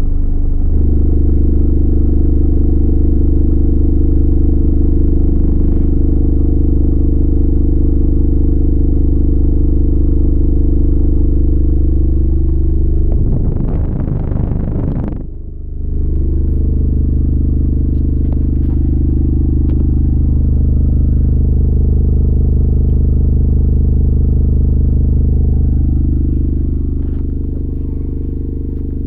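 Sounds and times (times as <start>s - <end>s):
subwoofer deep bass drone: 0.0s - 29.0s.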